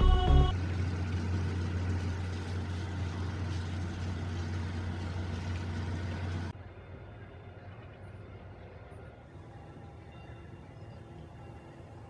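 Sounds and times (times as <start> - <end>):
ship's engine humming: 0.0 - 12.0.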